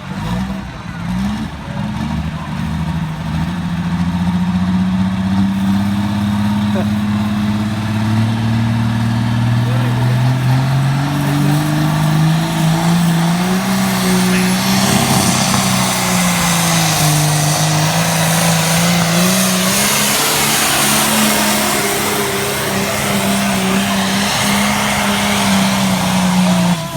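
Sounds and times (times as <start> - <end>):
tractor engine revving loud: 0.0 - 26.9.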